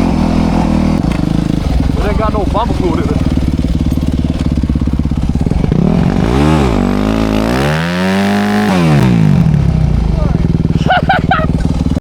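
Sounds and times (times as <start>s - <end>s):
dirt bike engine idling and revving: 0.0s - 12.0s.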